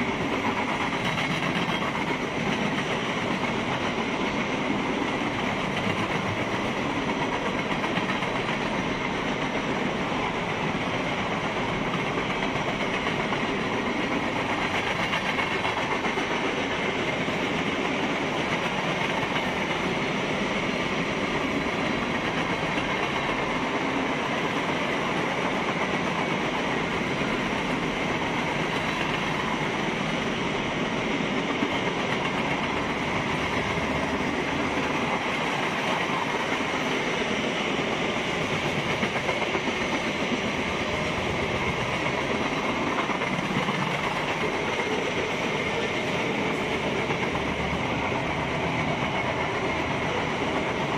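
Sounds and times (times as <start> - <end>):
train wheels rolling on rails: 0.0 - 50.9.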